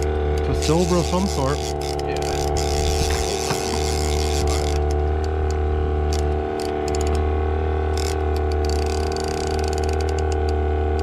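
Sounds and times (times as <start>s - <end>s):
fishing reel ratchet clicks: 0.0s - 7.2s, 7.9s - 11.0s
boat engine running: 0.0s - 11.0s.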